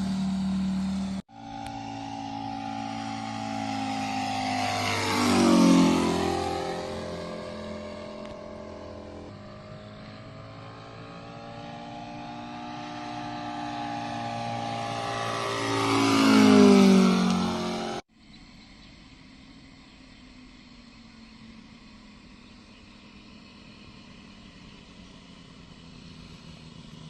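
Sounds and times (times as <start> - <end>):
model aircraft engine flying past: 0.0 - 27.0.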